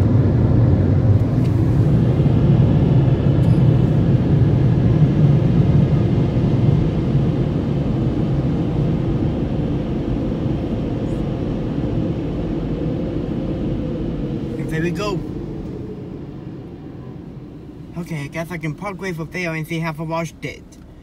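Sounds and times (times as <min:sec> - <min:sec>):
car wash dryer blowers rumbling: 0:00.0 - 0:21.0.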